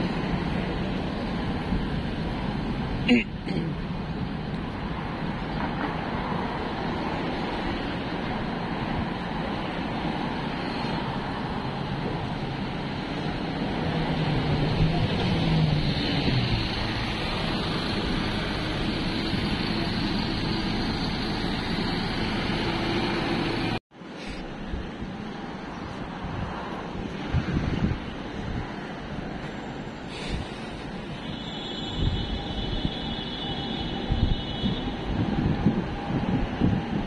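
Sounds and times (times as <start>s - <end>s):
bus passing: 0.0s - 37.0s
road traffic: 0.0s - 37.0s.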